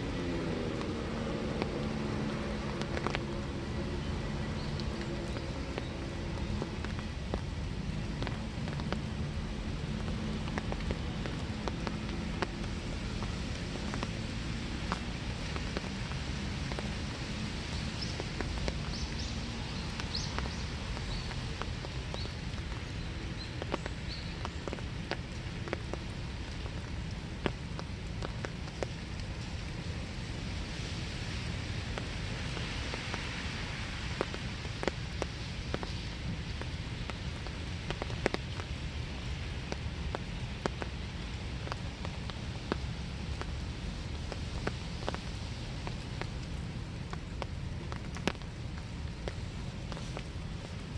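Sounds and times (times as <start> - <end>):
raindrops tapping sharply: 0.0 - 50.9
steady rain falling: 0.0 - 50.9.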